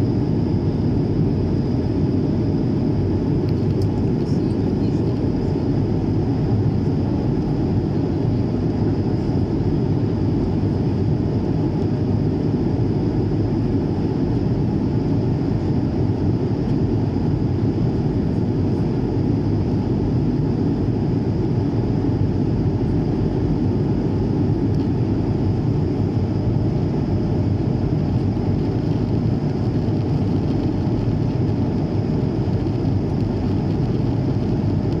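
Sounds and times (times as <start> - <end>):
airplane engine and airflow rush: 0.0 - 35.0.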